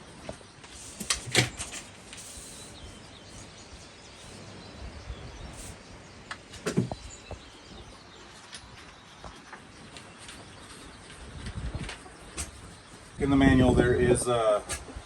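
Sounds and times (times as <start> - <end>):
steady background noise: 0.0 - 15.0
faint bird chirps: 0.1 - 13.3.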